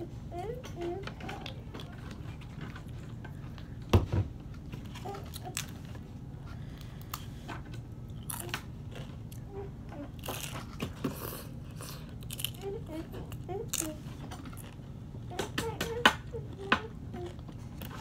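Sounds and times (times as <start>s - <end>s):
clicks and rustles of handling food: 0.4s - 18.0s.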